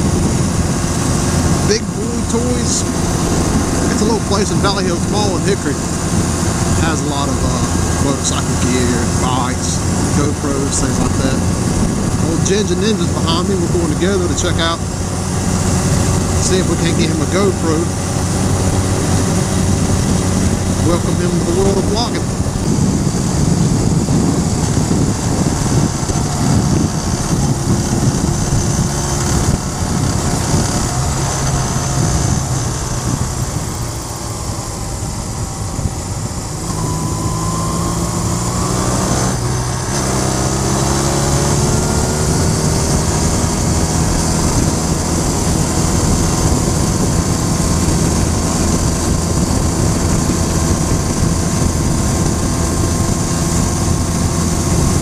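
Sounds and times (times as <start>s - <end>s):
motorcycle engine running: 0.0s - 55.0s
wind rushing: 0.0s - 55.0s.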